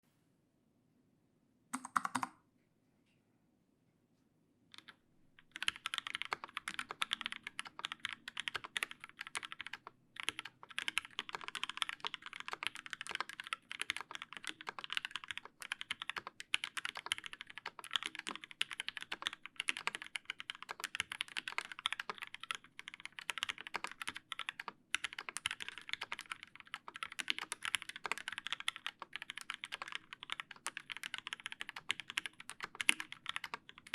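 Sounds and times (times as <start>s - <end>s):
typing on mechanical keyboard: 1.8s - 2.4s, 4.7s - 33.9s.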